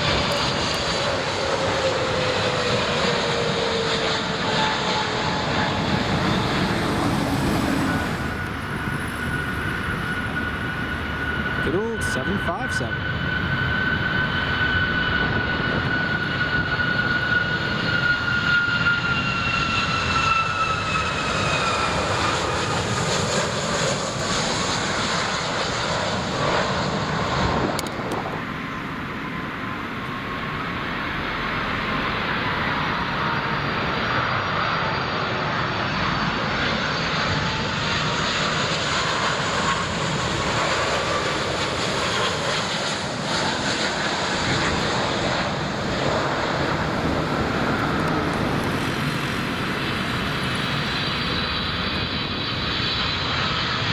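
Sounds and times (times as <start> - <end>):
jet engine roar with whine: 0.0 - 53.9.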